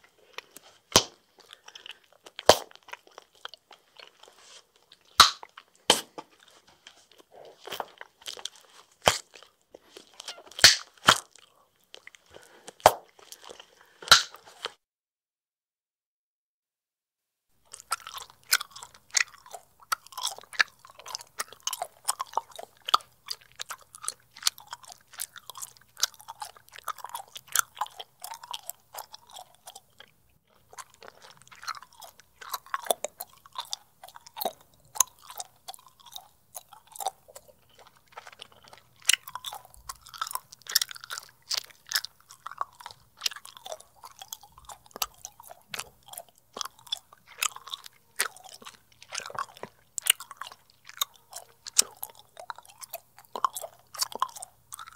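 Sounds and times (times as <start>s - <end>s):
bubble gum chewing: 0.0s - 14.8s, 17.6s - 54.9s.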